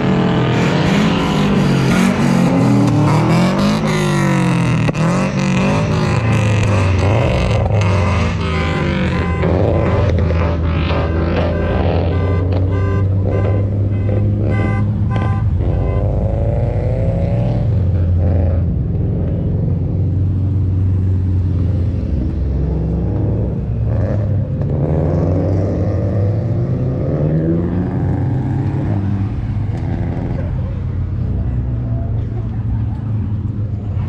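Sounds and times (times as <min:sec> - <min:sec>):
car engine accelerating: 0:00.0 - 0:34.0
car engines running: 0:00.0 - 0:34.0.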